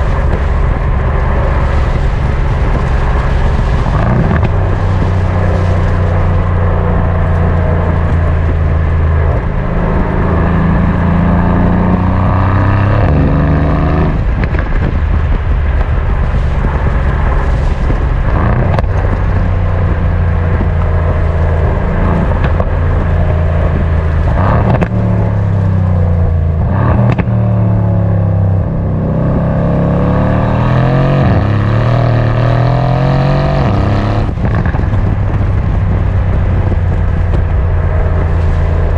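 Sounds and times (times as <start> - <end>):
car engine accelerating through gears: 0.0 - 38.9
exhaust cracks: 0.0 - 38.9.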